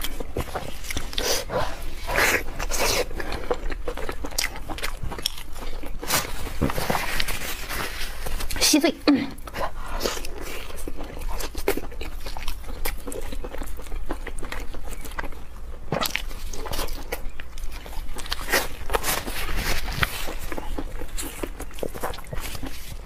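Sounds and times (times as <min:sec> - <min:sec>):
chewing and biting food: 0:00.0 - 0:08.6, 0:09.4 - 0:23.0.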